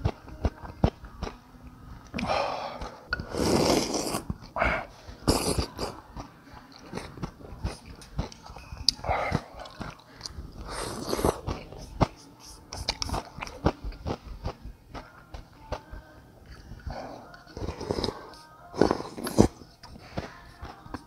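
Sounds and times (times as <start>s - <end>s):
chewing noodles: 2.0s - 12.2s, 12.8s - 21.0s.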